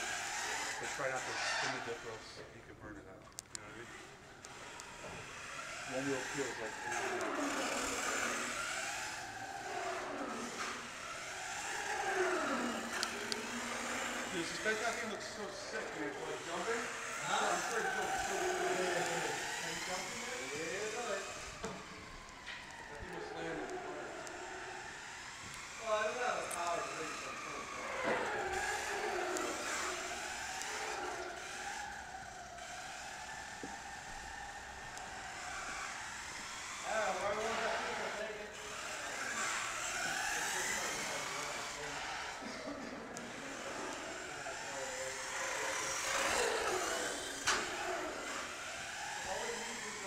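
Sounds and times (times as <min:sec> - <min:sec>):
electric motor whining: 0:00.0 - 0:50.0.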